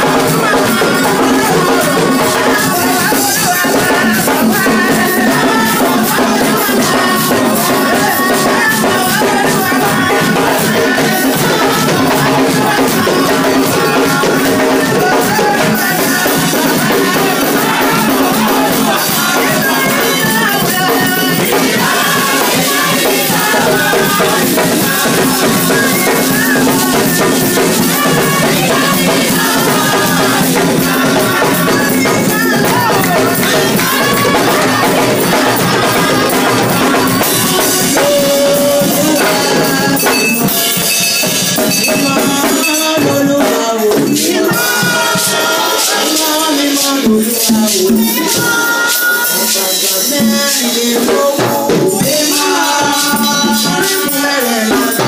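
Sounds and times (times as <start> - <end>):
drums: 0.0 - 55.0
voices singing praise song: 0.0 - 55.0.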